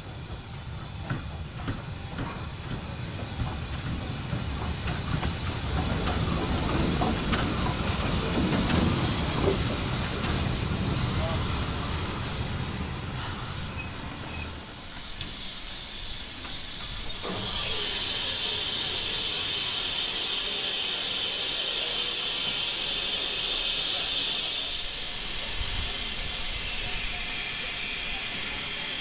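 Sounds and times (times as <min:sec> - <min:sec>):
steam hissing: 0:00.0 - 0:29.0.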